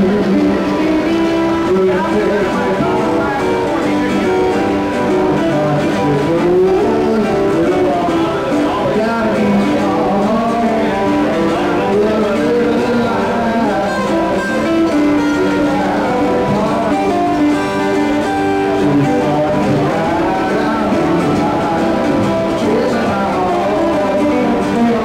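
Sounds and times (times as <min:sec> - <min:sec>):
acoustic guitar: 0:00.0 - 0:25.0
man singing into a microphone: 0:00.0 - 0:25.0.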